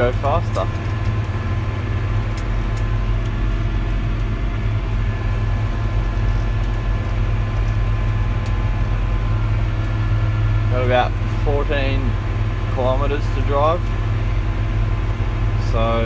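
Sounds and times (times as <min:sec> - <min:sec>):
faint steady whine: 0:00.0 - 0:16.0
tractor engine drone: 0:00.0 - 0:16.0.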